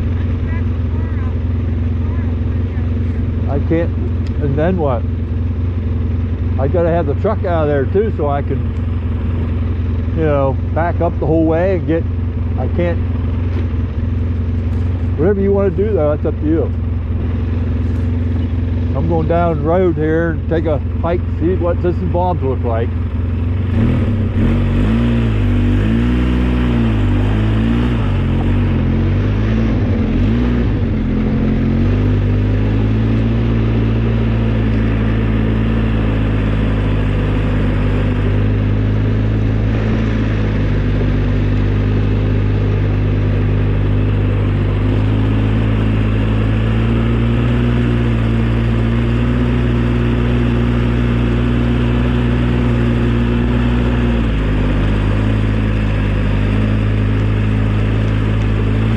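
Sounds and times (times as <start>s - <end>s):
snowplow engine running: 0.0s - 58.9s.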